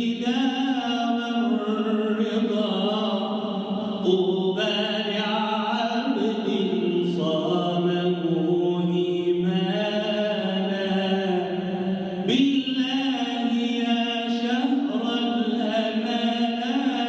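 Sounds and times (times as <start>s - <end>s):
man chanting unaccompanied: 0.0s - 17.0s.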